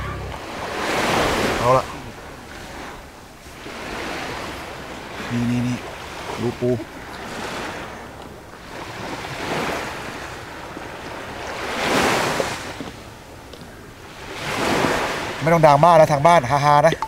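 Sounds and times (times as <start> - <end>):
sea waves washing on beach: 0.0 - 17.0.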